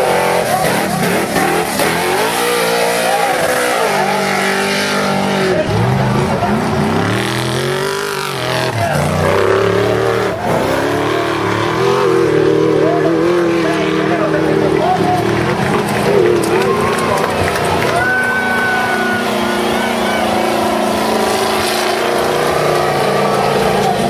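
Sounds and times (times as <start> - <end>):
off-road trucks revving: 0.0 - 24.0.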